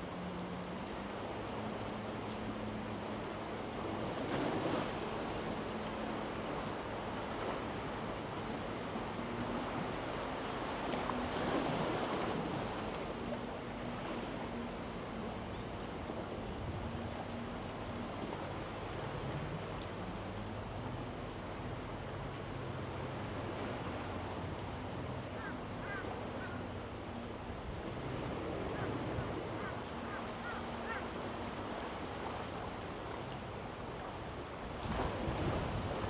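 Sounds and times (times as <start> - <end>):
sea surf: 0.0 - 36.0.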